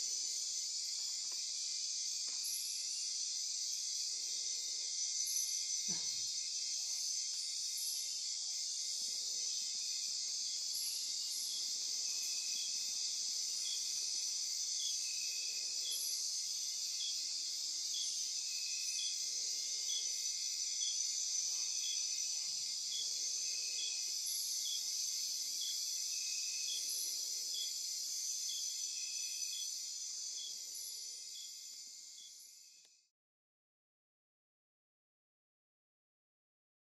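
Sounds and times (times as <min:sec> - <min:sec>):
insect chirps: 0:00.0 - 0:33.1.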